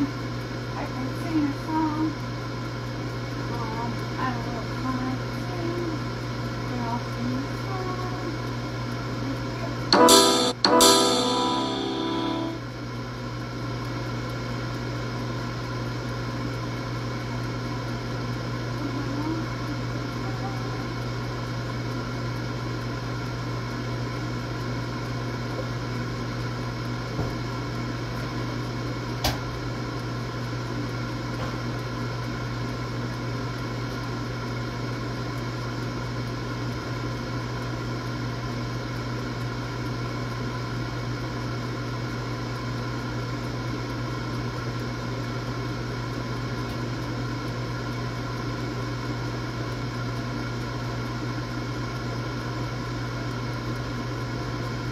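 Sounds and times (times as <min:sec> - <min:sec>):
air fryer fan hum: 0:00.0 - 0:54.9.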